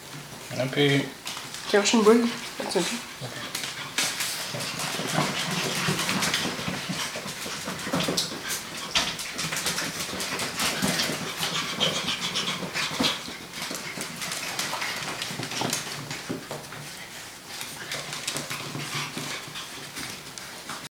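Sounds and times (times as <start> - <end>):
puppy paws clicking on floor: 0.0 - 20.9.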